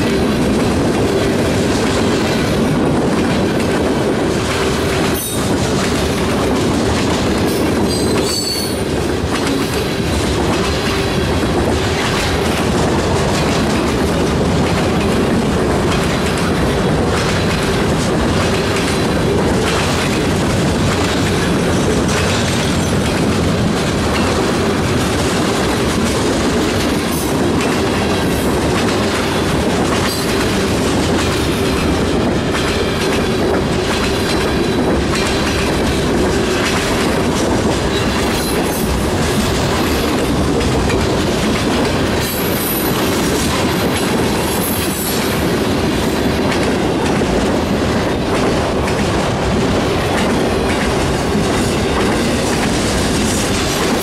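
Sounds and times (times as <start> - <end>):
freight train rumbling past: 0.0 - 54.0
wheels clattering over rail joints: 0.0 - 54.0.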